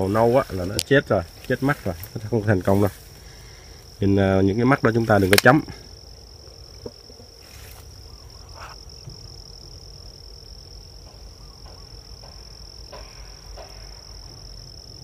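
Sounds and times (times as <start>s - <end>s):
high-pitched insect trill: 0.0s - 15.0s
low outdoor rumble: 0.0s - 15.0s.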